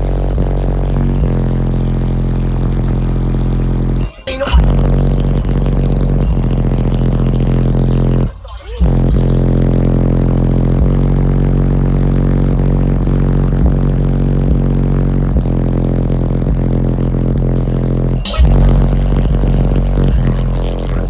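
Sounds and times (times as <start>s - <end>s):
loud subwoofer bass note: 0.0s - 21.0s.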